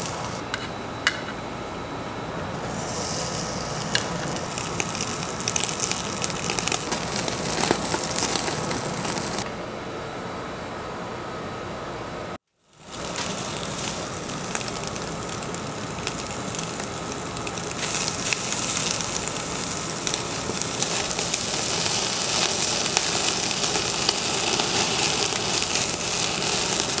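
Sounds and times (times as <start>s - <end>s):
meat sizzling on a grill: 0.0s - 0.4s, 2.6s - 9.4s, 12.6s - 27.0s.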